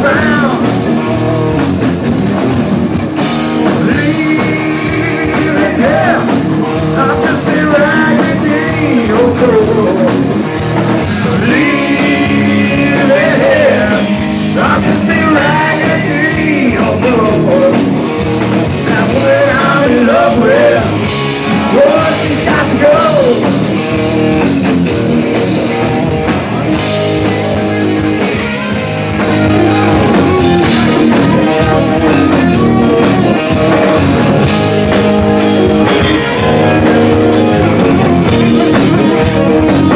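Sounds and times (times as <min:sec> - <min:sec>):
bending lead guitar line: 0:00.0 - 0:39.9
rock band playing live: 0:00.0 - 0:39.9.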